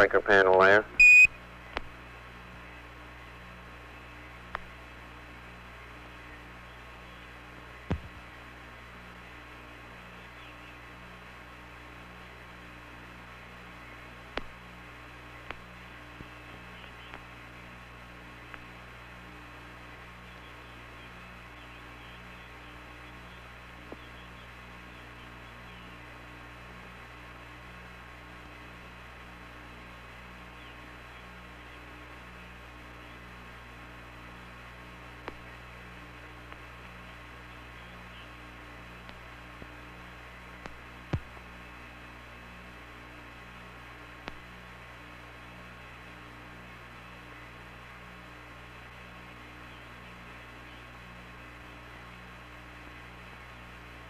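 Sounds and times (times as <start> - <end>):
radio hum and hiss: 0.0 - 54.0.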